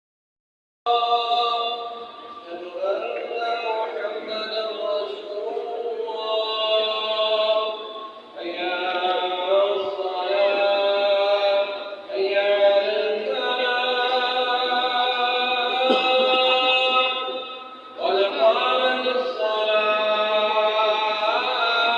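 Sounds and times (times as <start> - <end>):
person chanting melodic recitation: 0.9 - 21.9.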